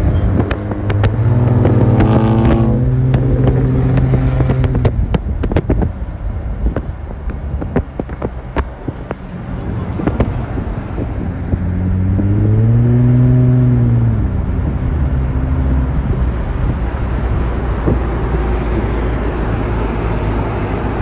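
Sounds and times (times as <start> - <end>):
car engine revving: 0.0 - 21.0
traffic rumble of engines and tyres: 0.0 - 21.0.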